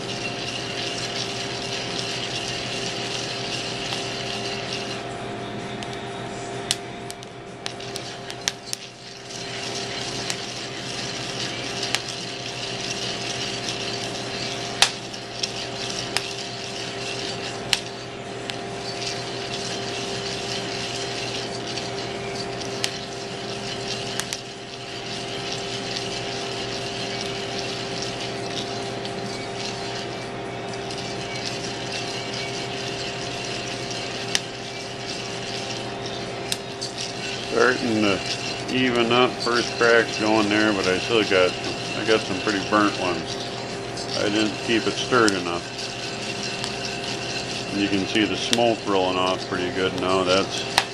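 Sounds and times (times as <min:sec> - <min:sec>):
wooden spoon stirring beans in pan: 0:00.0 - 0:05.1, 0:07.6 - 0:50.9
coffee beans popping: 0:00.0 - 0:50.9
hissing gas burner: 0:06.7 - 0:50.9.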